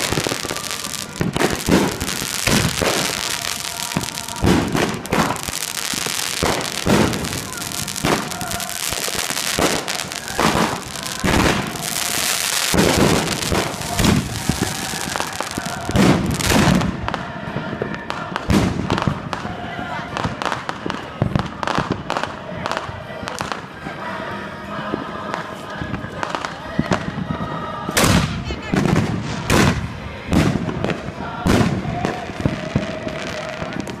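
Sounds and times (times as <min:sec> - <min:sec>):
fireworks bursting: 0:00.0 - 0:23.7, 0:27.9 - 0:34.0
fireworks crackling: 0:00.0 - 0:23.8, 0:27.9 - 0:34.0.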